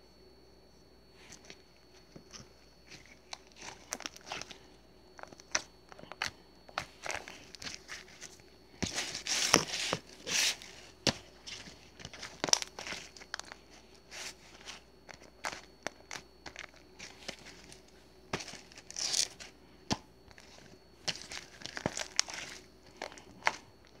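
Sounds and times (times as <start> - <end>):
crinkling and rustling: 1.2 - 24.0.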